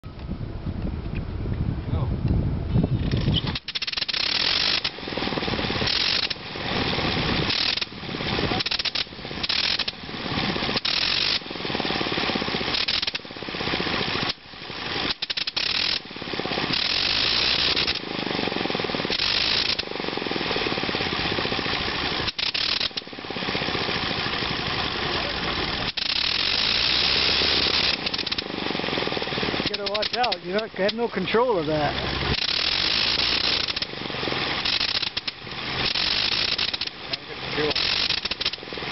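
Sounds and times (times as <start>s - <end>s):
rotary aero engine firing in bursts: 2.9s - 38.9s.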